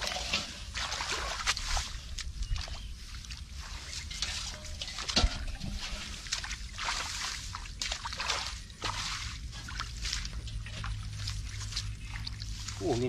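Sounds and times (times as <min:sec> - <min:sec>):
metal basin bailing water: 0:00.0 - 0:13.0
muddy water sloshing and splashing: 0:00.0 - 0:13.0.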